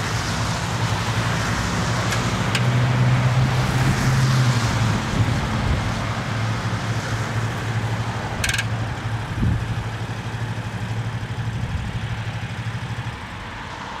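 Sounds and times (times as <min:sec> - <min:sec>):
utility vehicle engine idling: 0:00.0 - 0:14.0.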